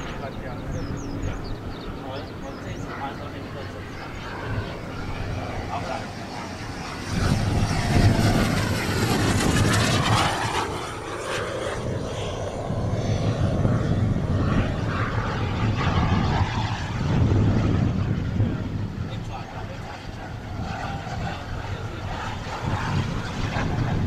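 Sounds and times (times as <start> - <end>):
model jet turbine whine: 0.0 - 24.0.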